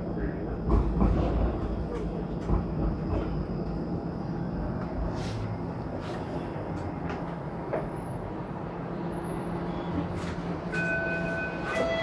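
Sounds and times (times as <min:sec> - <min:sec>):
streetcar rumble and hum: 0:00.0 - 0:12.0.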